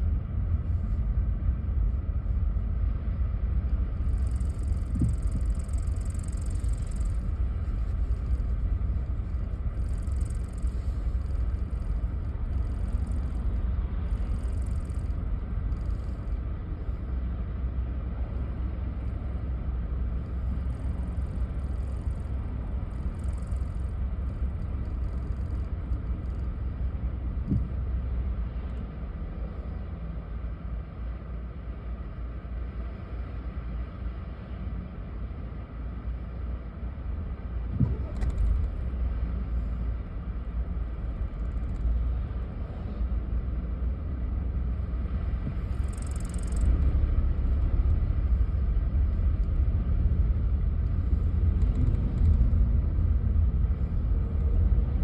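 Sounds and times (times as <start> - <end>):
car engine rumble and road noise: 0.0 - 55.0.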